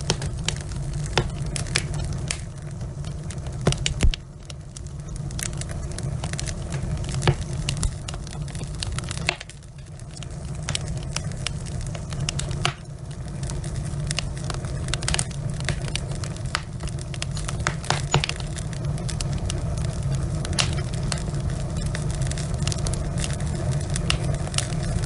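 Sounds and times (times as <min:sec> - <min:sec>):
logs crackling in a fireplace: 0:00.0 - 0:25.0.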